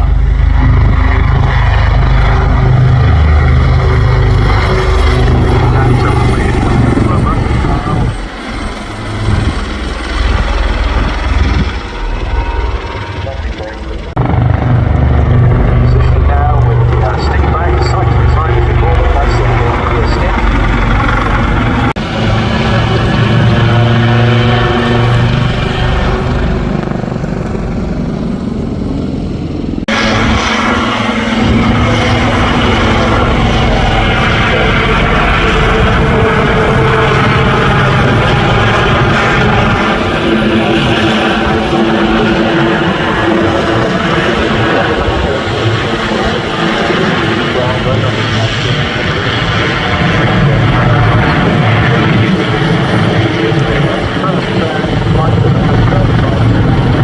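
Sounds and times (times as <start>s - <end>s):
aircraft engine noise: 0.0s - 57.0s.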